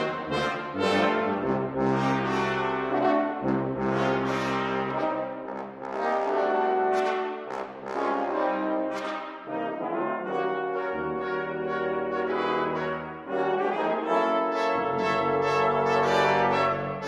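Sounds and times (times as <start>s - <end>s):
brass ensemble playing chords: 0.0s - 17.0s.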